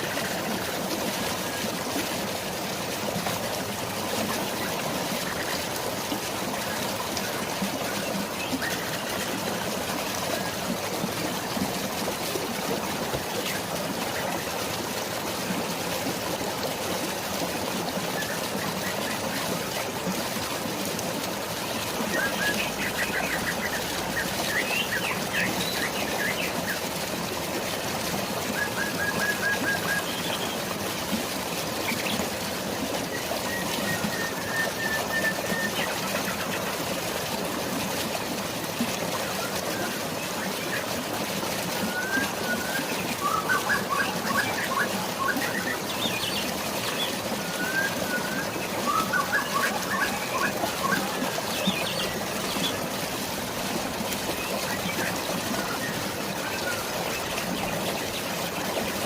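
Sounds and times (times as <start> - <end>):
flowing water: 0.0 - 59.0
rain: 0.0 - 59.0.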